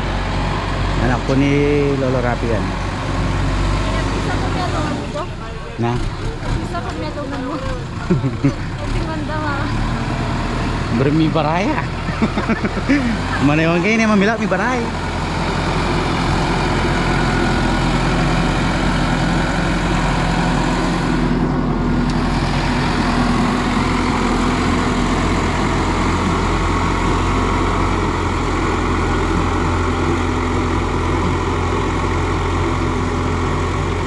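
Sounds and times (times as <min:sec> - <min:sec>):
tractor diesel engine droning: 0:00.0 - 0:34.0.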